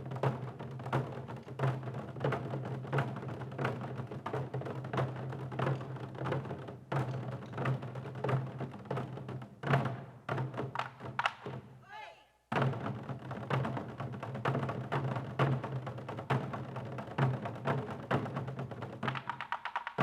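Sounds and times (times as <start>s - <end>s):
drums beating: 0.0s - 20.0s.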